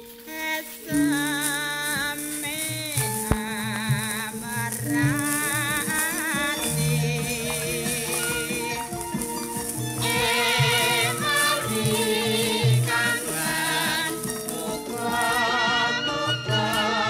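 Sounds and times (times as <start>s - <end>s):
song with vibrato singing: 0.0s - 17.0s.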